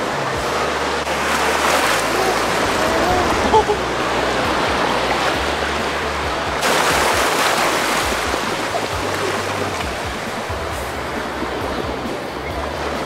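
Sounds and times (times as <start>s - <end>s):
music playing: 0.0s - 13.0s
surf washing over sand: 0.0s - 13.0s.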